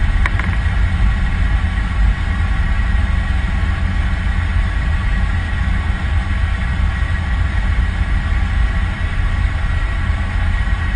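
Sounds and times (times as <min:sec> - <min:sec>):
airplane engine rumble: 0:00.0 - 0:10.9.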